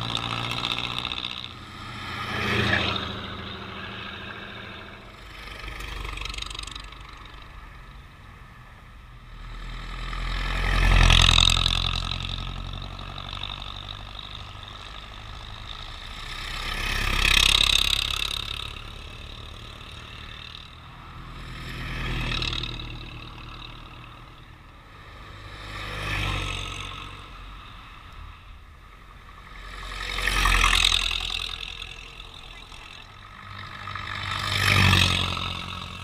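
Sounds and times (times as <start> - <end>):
old cars driving past: 0.0 - 36.0.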